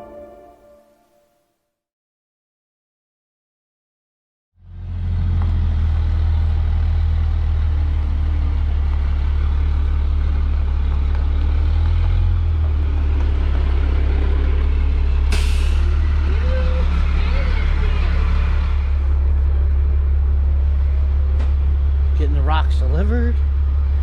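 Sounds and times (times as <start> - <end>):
diesel engine running: 4.6 - 24.0.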